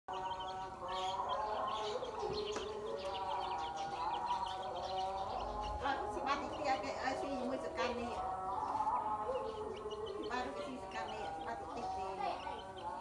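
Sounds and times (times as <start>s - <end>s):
chick peeping: 0.1s - 13.0s.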